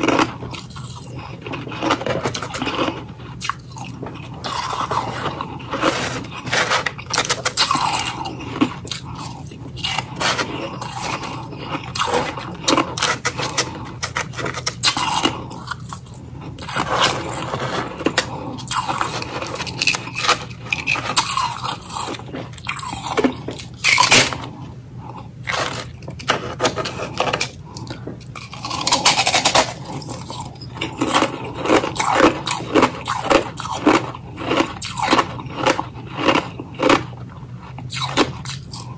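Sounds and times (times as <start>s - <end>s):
chewing and crunching ice: 0.0s - 38.9s
low steady hum: 0.0s - 38.9s.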